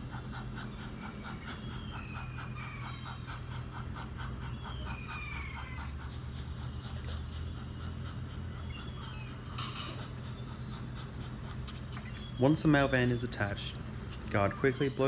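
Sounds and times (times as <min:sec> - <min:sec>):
low running hum: 0:00.0 - 0:15.0
model steam locomotive chuffing: 0:00.0 - 0:15.0.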